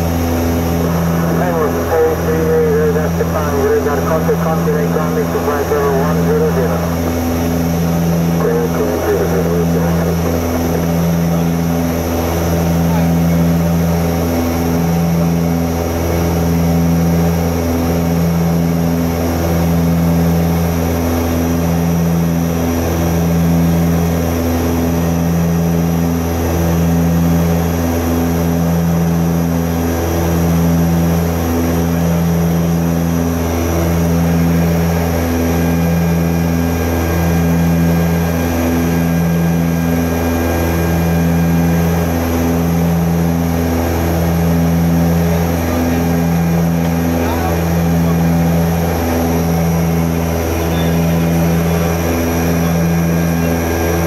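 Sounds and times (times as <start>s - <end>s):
propeller engines droning: 0.0s - 54.0s.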